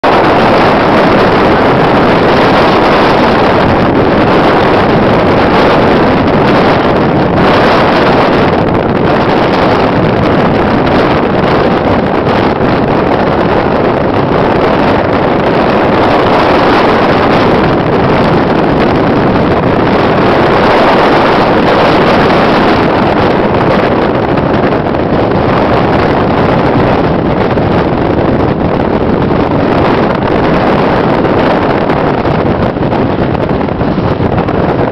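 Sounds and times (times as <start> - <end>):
vehicle road noise: 0.0 - 34.9
wind buffeting microphone: 0.0 - 34.9.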